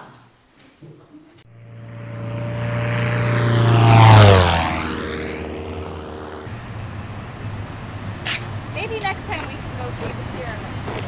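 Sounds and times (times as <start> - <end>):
airplane engine flying past: 1.4 - 11.0.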